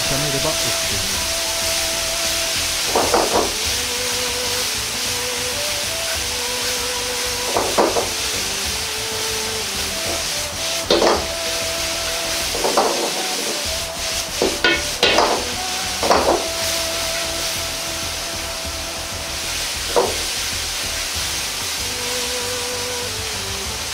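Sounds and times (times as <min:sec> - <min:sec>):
spatula scraping a wok: 0:00.0 - 0:22.2
food sizzling in a wok: 0:00.0 - 0:23.9.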